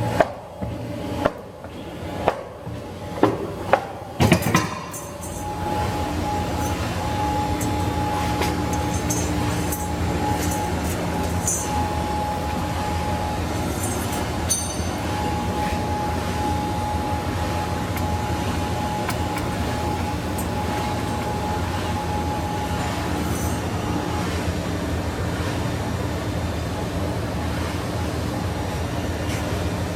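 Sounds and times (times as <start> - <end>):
machine humming with tones: 0.0 - 29.9.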